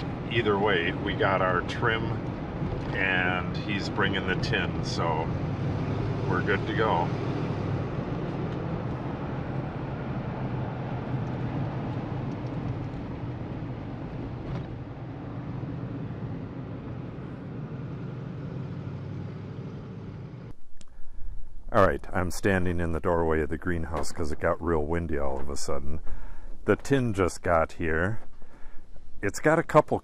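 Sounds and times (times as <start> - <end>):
car road and engine rumble: 0.0 - 29.6.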